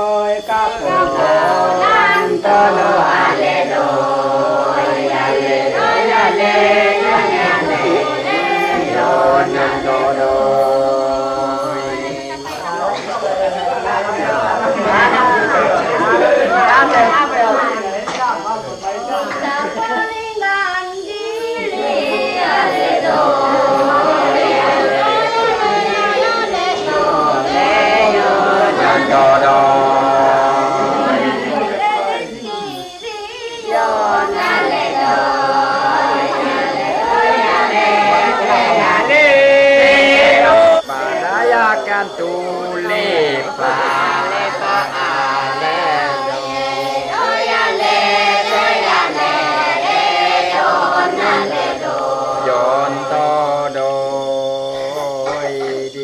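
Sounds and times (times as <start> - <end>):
choir singing long notes: 0.0 - 56.0.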